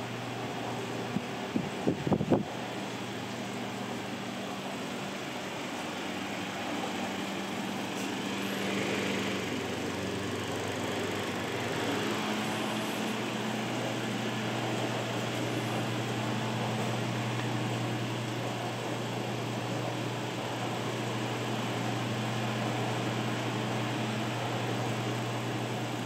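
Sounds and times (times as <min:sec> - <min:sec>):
air rushing from fan blades: 0:00.0 - 0:26.0
electric fan motor hum: 0:00.0 - 0:26.0.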